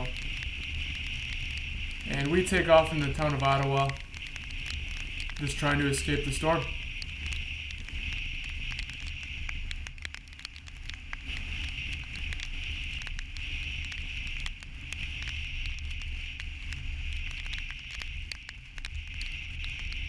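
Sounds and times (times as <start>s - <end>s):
rain pattering on vehicle: 0.0s - 20.0s.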